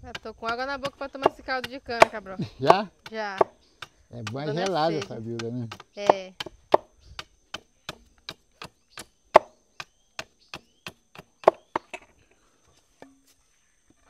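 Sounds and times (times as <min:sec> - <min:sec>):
machete chopping wood: 0:00.0 - 0:12.1.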